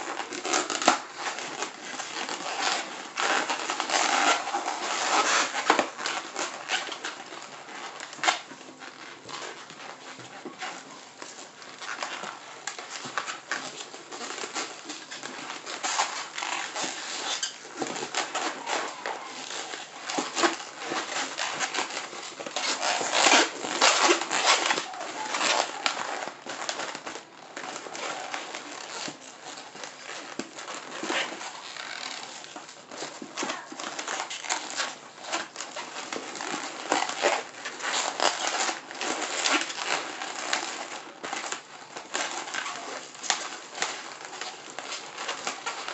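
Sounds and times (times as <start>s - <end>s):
balloons squeaking and rubbing: 0.0s - 45.9s.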